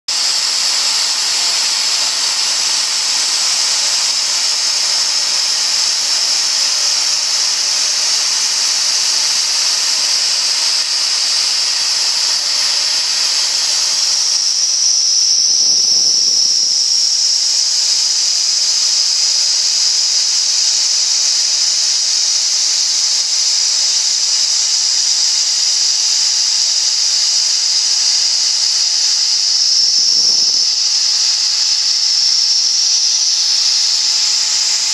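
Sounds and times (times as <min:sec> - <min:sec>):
spindle high-pitched whine: 0:00.1 - 0:34.9.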